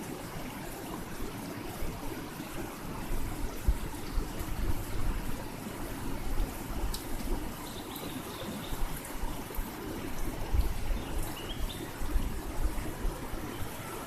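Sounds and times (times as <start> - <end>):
river water trickling over stones: 0.0 - 14.0.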